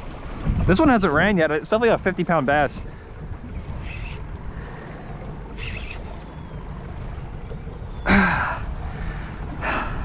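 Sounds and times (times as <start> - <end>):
water slapping around boat: 0.0 - 10.0
wind buffeting microphone: 0.0 - 10.0.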